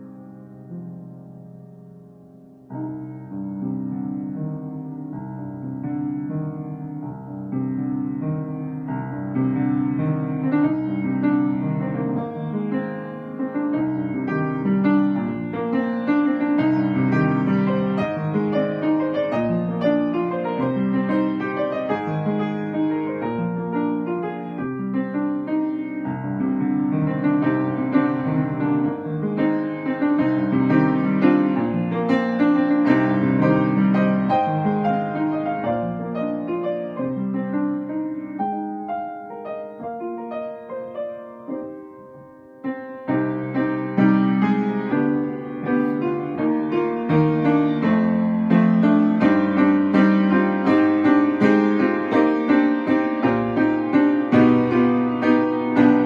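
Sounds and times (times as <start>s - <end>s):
solo piano playing: 0.0s - 56.0s.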